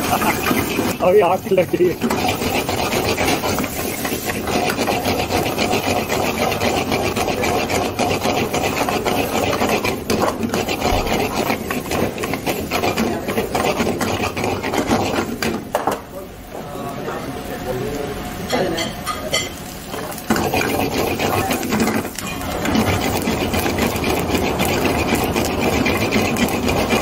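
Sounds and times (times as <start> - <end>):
ladle scraping frying pan: 0.0 - 15.6, 19.4 - 27.0.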